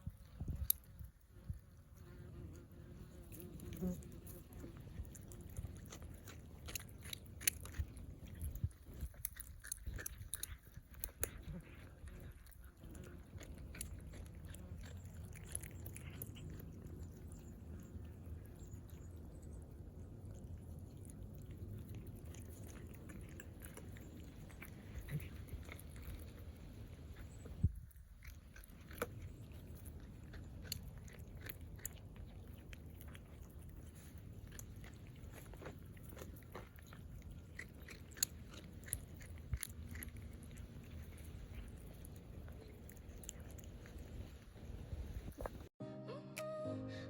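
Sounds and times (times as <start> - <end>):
person chewing and biting: 3.2 - 17.8, 20.3 - 45.7.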